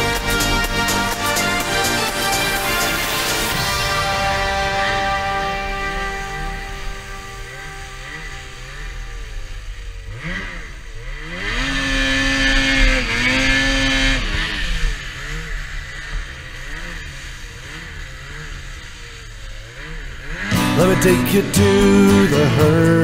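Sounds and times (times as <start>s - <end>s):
snowmobile engine revving: 0.0s - 23.0s.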